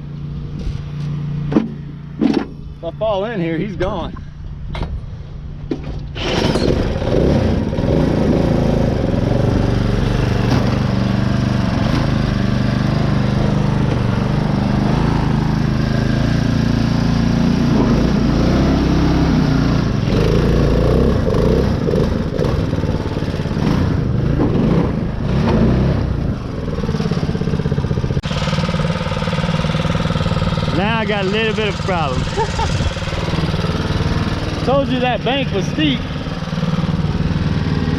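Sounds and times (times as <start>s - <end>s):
small mower engine straining: 6.1s - 37.9s.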